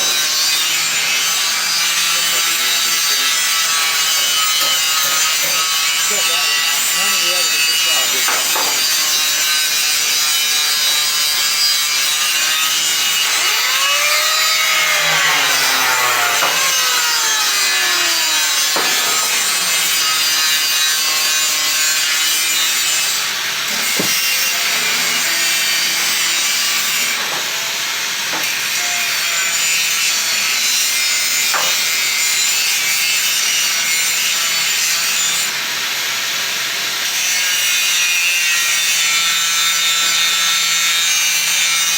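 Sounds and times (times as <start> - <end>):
power tool grinding steel: 0.0 - 41.9.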